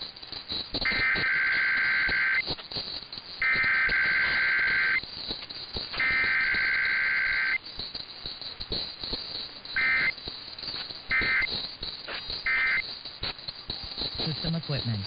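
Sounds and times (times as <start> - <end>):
crackling clicks: 0.0 - 15.0
two-tone data bursts: 0.0 - 15.0.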